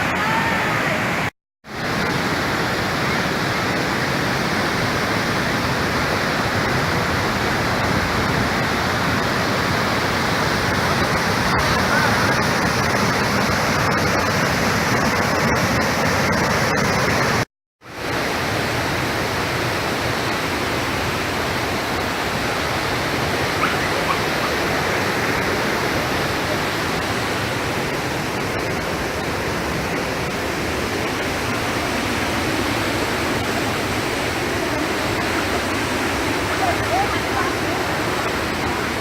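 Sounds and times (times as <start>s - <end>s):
waterfall crashing: 0.0s - 39.0s.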